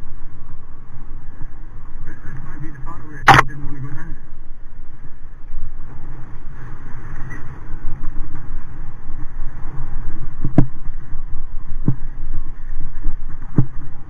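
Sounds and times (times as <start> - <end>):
bike rumble on trail: 0.0 - 14.0
wind buffeting microphone: 0.0 - 14.0.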